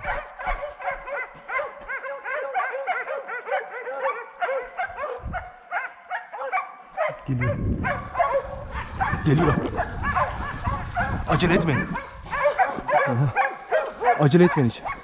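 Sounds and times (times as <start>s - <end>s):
hounds baying and yelping: 0.0s - 15.0s.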